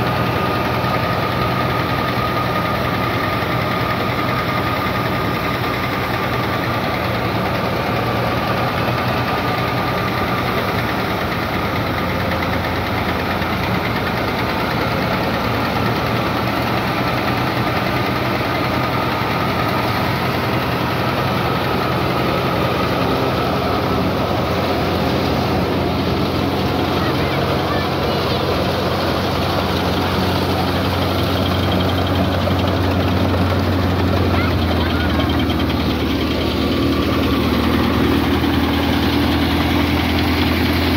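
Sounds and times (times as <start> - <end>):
thresher drum and fan running: 0.0 - 40.9
tractor diesel engine running: 0.0 - 40.9.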